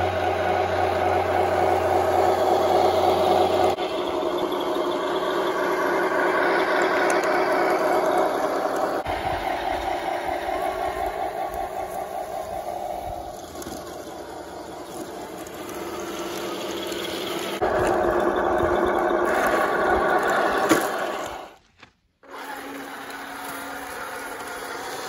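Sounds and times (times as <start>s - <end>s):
toy tank motors whirring: 0.0s - 25.0s.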